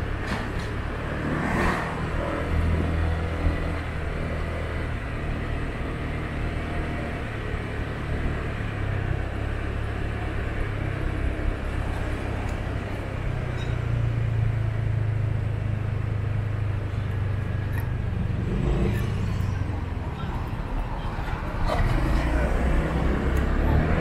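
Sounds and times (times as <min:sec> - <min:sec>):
car engine drone: 0:00.0 - 0:24.0
road and tyre noise: 0:00.0 - 0:24.0.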